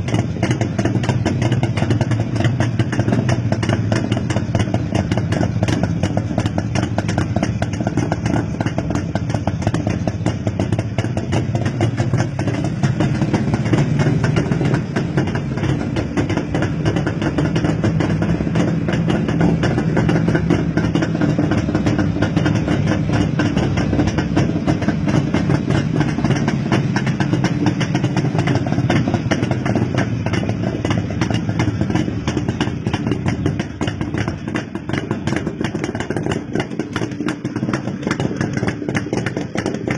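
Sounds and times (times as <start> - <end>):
two-stroke motorcycle engine idling: 0.0 - 39.9.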